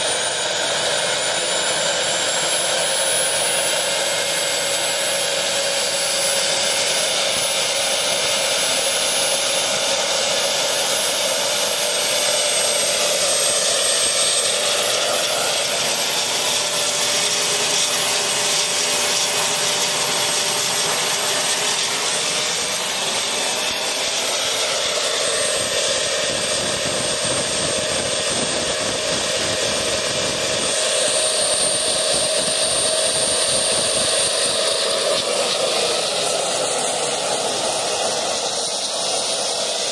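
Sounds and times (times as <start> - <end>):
gas turbine engine running: 0.0 - 39.9.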